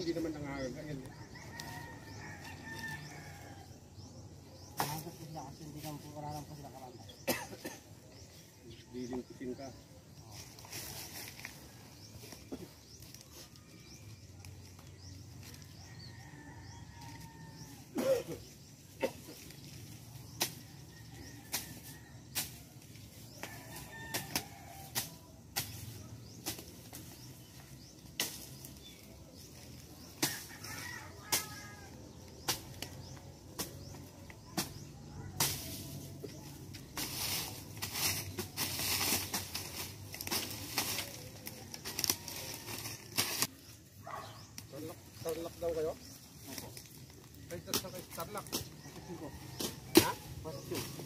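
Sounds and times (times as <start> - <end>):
dry leaves rustling and snapping: 1.0 - 3.7, 10.1 - 17.7, 18.4 - 51.0.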